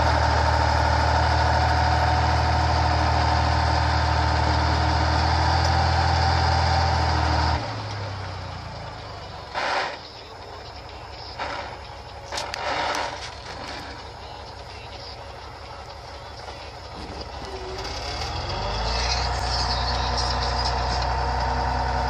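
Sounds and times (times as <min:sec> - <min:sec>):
heavy truck engine humming: 0:00.0 - 0:22.0.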